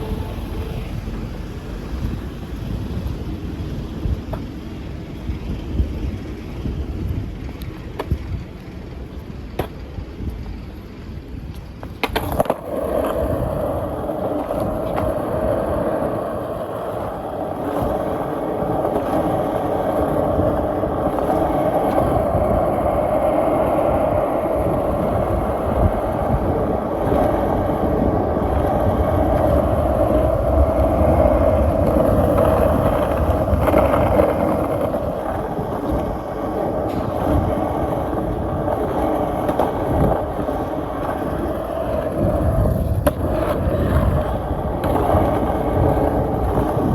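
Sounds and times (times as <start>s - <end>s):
skateboard wheels rolling on pavement: 0.0s - 46.9s.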